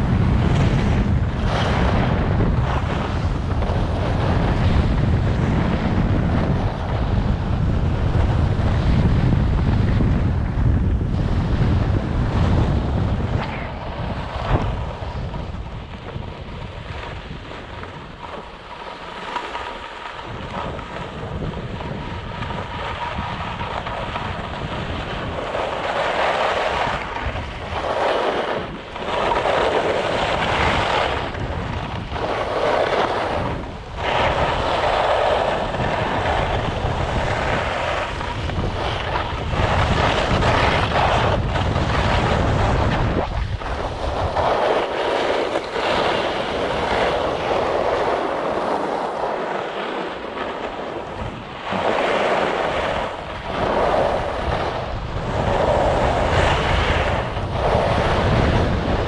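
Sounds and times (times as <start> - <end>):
skis scraping on snow: 0.0 - 59.0
wind rushing over microphone: 0.0 - 59.0.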